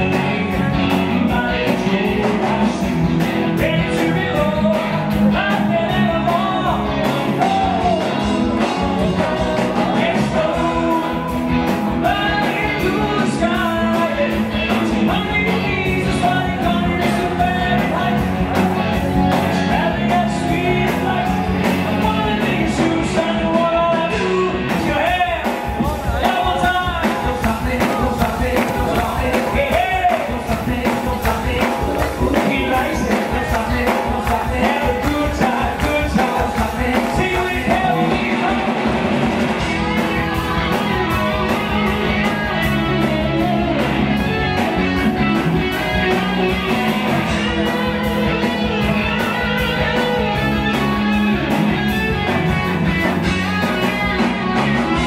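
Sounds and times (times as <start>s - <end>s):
drums steady beat: 0.0s - 55.0s
live rock band: 0.0s - 55.0s
man singing: 0.0s - 55.0s.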